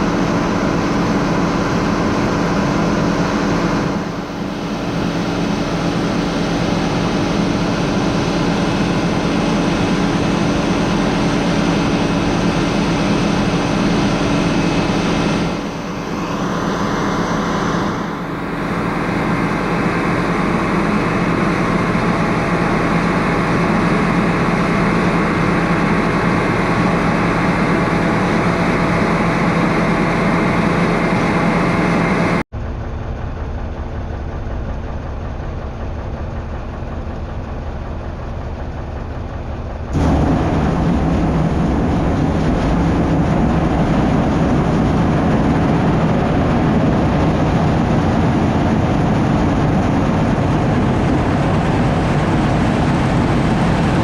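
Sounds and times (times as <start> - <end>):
heavy vehicle engine running: 0.0 - 54.0.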